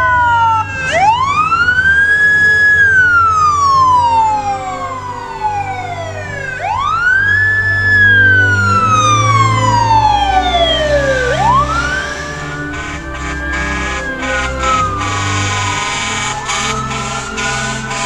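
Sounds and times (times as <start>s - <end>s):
heavy truck engines rumbling: 0.0s - 18.0s
siren wailing: 0.0s - 18.0s.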